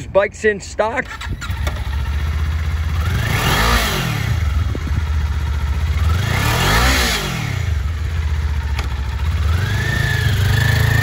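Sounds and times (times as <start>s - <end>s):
motorcycle engine idling and revving: 1.0s - 11.0s.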